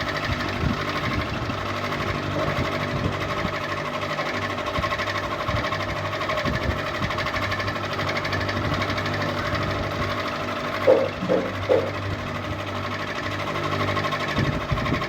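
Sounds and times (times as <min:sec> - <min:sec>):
ceiling fan humming and rattling: 0:00.0 - 0:15.0.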